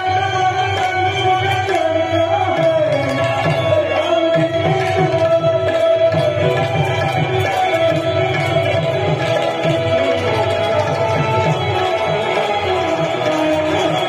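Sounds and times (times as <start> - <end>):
sliding devotional melody: 0.0 - 14.0
tabla rhythm: 0.0 - 14.0.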